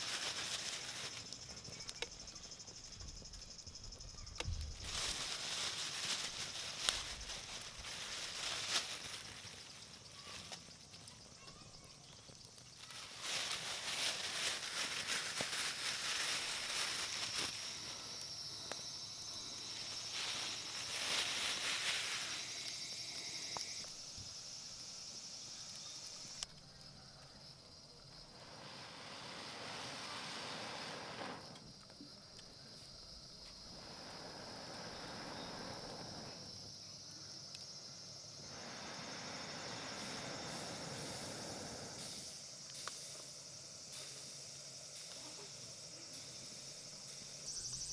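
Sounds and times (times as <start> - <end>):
crackles: 0.0 - 47.9
crickets chirring: 0.0 - 47.9.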